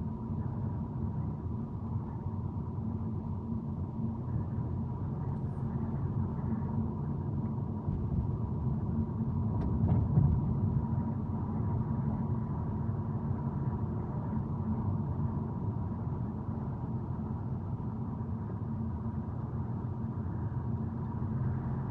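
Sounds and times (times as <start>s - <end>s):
thin steady whine: 0.0s - 9.6s, 10.6s - 21.9s
road and engine rumble: 0.0s - 21.9s.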